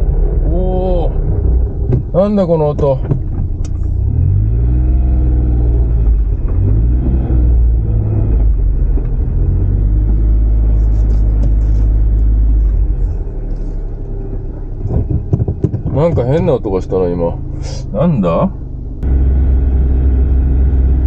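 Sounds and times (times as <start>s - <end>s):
low rumbling drivetrain groan: 0.0s - 21.0s.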